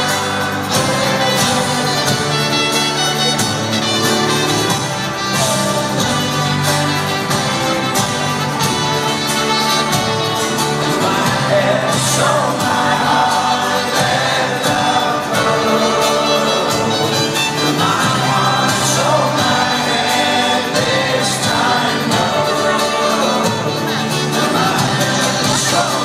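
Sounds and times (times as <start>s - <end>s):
live folk-rock band with horns: 0.0s - 26.0s
person singing: 0.0s - 26.0s.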